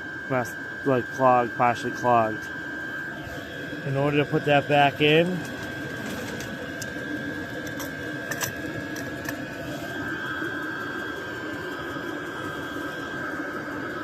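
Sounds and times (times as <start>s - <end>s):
high whine: 0.0s - 14.0s
steady mechanical hum: 0.0s - 14.0s.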